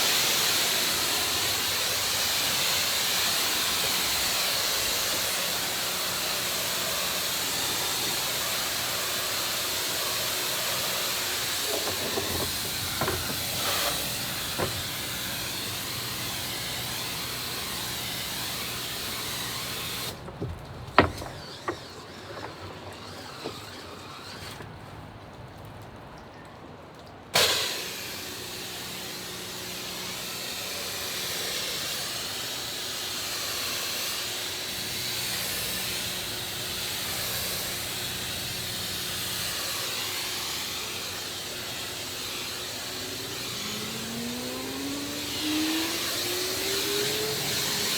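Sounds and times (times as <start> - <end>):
pressure washer spray hissing: 0.0 - 24.4, 27.4 - 47.9.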